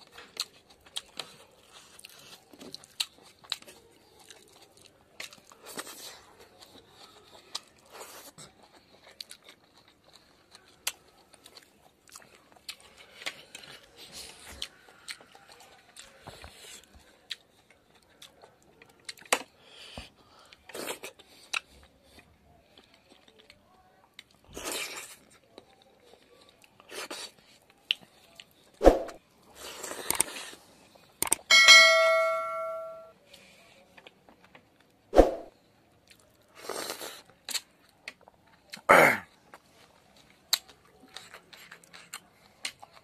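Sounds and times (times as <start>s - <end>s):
man chewing food: 0.0s - 31.5s, 36.0s - 43.0s.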